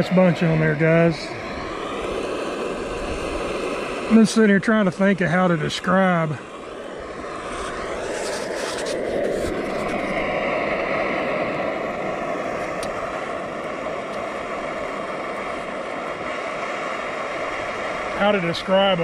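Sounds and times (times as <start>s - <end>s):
camp stove burner roaring: 0.0s - 19.0s.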